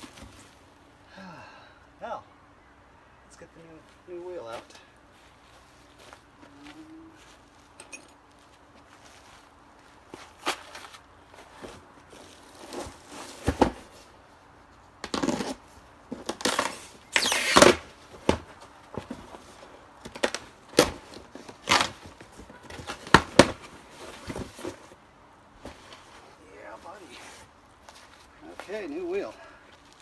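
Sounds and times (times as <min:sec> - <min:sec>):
scraping and rustling: 0:00.0 - 0:00.9, 0:04.6 - 0:30.0.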